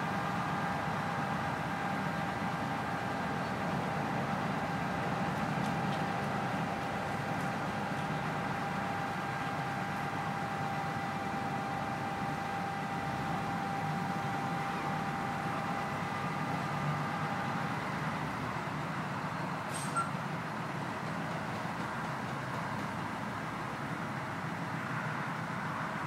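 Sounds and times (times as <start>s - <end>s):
crane engines running: 0.0s - 26.0s.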